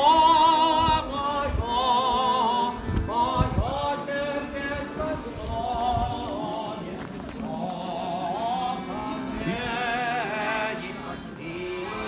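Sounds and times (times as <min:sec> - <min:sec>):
accordion: 0:00.0 - 0:12.0
man singing operatic style: 0:00.0 - 0:12.0.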